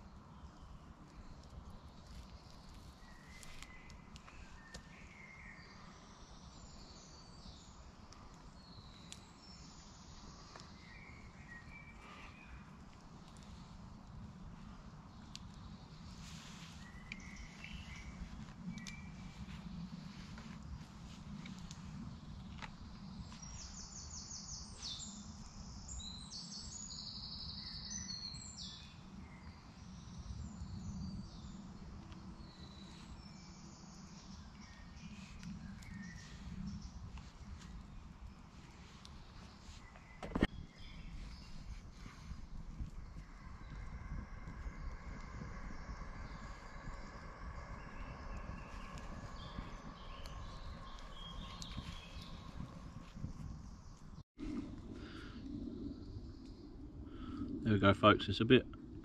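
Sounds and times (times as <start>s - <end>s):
birds singing: 0.1s - 13.8s, 14.8s - 54.2s
steady low rumble: 7.8s - 25.9s, 29.1s - 59.0s.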